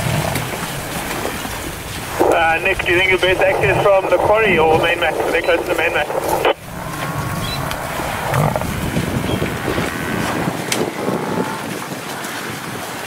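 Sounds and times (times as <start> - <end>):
buffalo grunting: 0.8 - 12.2.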